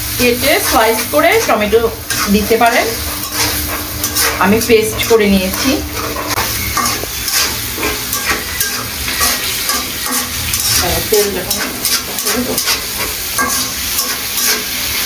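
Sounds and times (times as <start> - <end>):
paste sizzling in oil: 0.0 - 15.0
spatula scraping a pan: 0.2 - 15.0.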